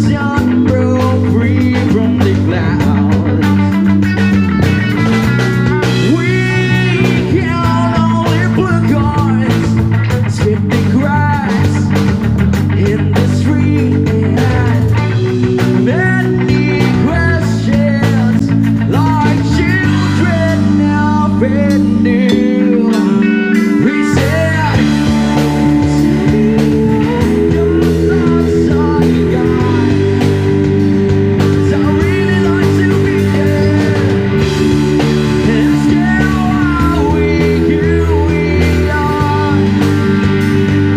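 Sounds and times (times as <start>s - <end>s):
electric guitar lead bending notes: 0.0s - 40.9s
live rock band playing: 0.0s - 40.9s.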